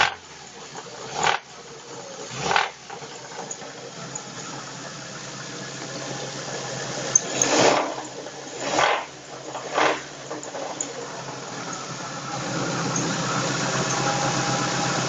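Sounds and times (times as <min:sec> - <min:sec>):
car engine humming: 0:00.0 - 0:15.0
harsh engine noise bursts: 0:02.3 - 0:15.0.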